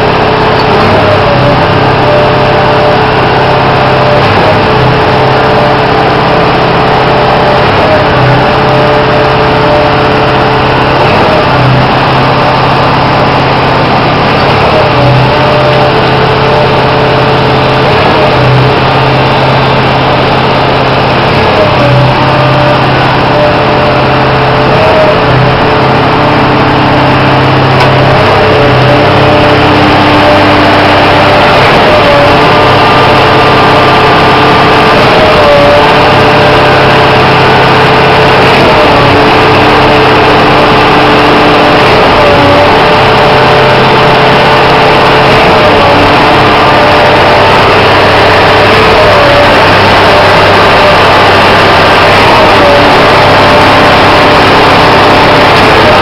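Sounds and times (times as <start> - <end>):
concrete pump running: 0.0 - 56.0.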